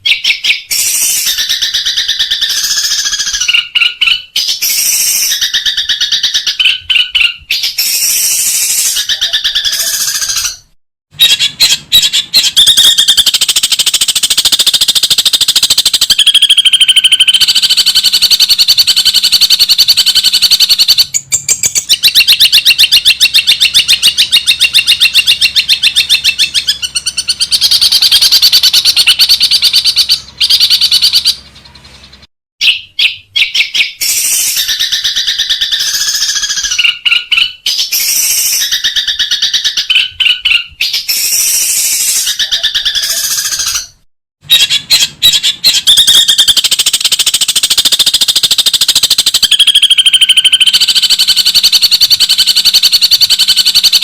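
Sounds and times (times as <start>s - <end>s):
bird singing high chattering notes: 0.0s - 54.0s.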